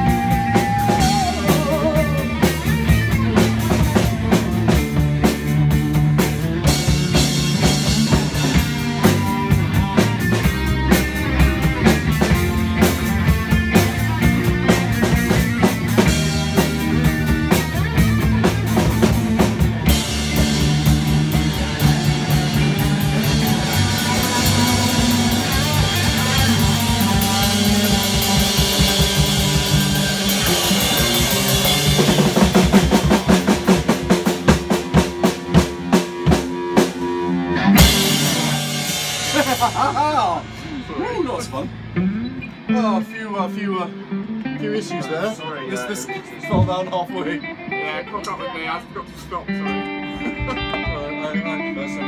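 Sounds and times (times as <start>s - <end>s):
drums hitting hard: 0.0s - 42.0s, 46.4s - 47.0s, 50.2s - 51.4s
live rock band playing: 0.0s - 52.0s.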